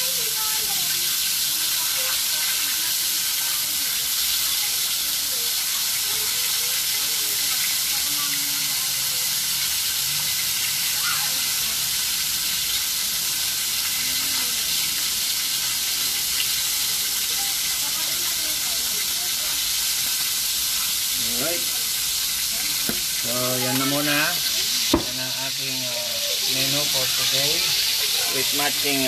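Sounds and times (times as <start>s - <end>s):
fish sizzling in hot oil: 0.0s - 29.0s.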